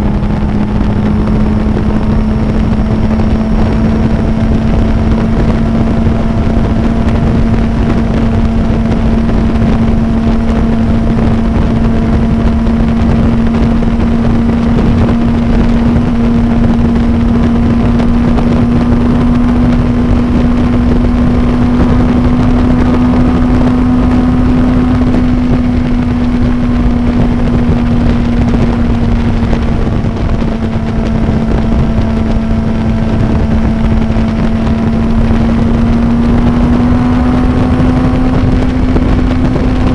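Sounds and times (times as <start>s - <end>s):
heavy wind rush: 0.0s - 39.9s
motorcycle engine cruising: 0.0s - 39.9s.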